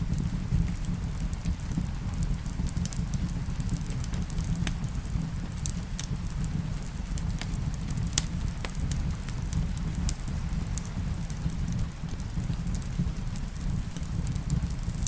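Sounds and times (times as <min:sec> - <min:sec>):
steady rain: 0:00.0 - 0:15.0
wood fire crackling and popping: 0:00.0 - 0:15.0.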